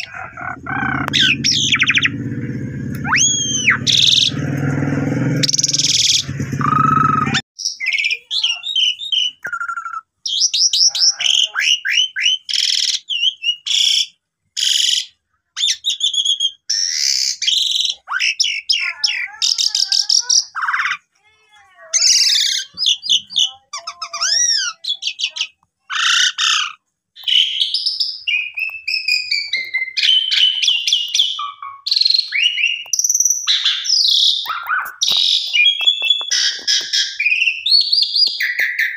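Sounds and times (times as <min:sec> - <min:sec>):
starling singing whistles and chirps: 0:03.0 - 0:04.4, 0:05.4 - 0:21.0, 0:22.0 - 0:38.9.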